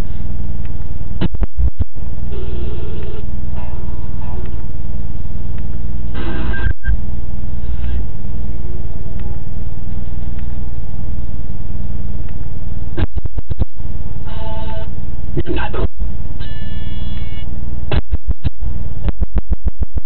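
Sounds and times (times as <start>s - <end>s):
distorted low rumble: 0.0s - 20.0s
steady low hum: 0.0s - 20.0s.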